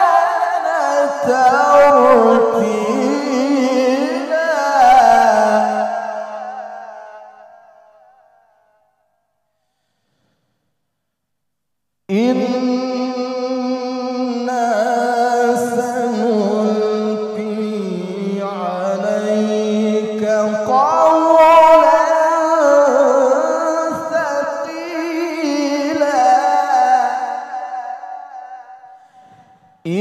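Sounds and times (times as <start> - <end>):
man reciting melodically: 0.0 - 7.2, 12.1 - 30.0.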